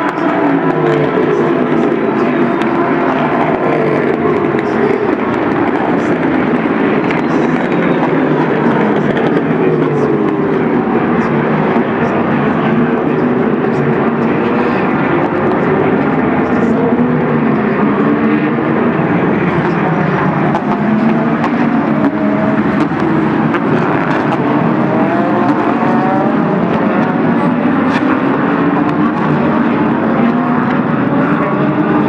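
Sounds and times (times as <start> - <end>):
racing car engines passing: 0.0 - 32.0.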